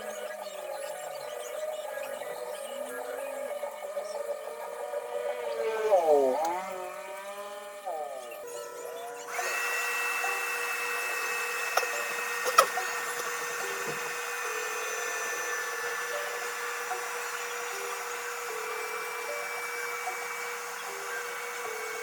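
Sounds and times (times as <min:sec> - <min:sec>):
small motor whirring: 0:00.0 - 0:22.0.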